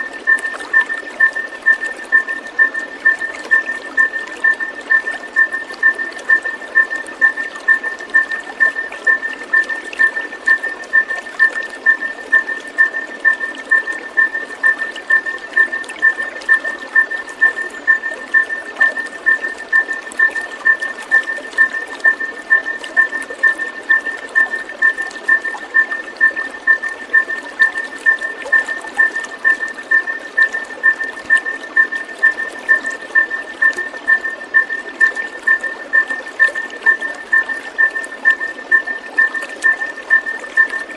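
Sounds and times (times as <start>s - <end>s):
water trickling and gurgling: 0.0s - 40.9s.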